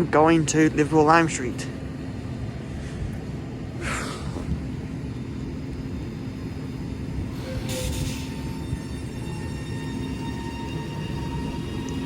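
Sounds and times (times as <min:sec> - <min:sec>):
train running gear rumble: 0:00.0 - 0:12.0.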